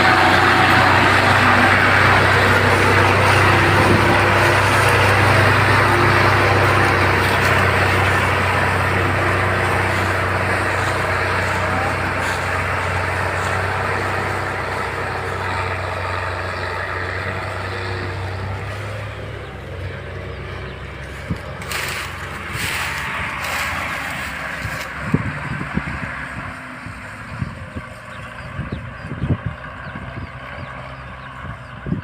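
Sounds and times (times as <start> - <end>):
tractor engines running: 0.0 - 32.0.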